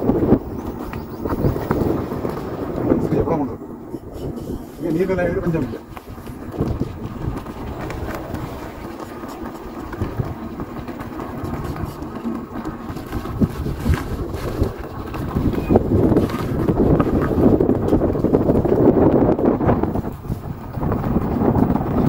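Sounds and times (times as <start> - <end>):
moving vehicle rumble: 0.0 - 22.0
wind buffeting microphone: 0.0 - 22.0.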